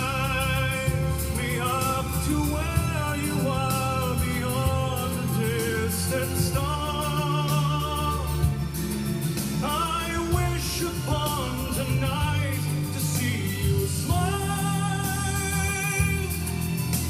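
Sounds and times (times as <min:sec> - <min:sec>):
instrumental backing music: 0:00.0 - 0:17.0
person singing with vibrato: 0:00.0 - 0:17.0.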